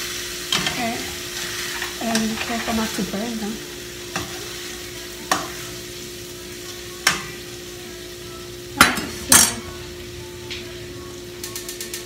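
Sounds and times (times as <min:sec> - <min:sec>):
meat frying in a pan: 0:00.0 - 0:12.0.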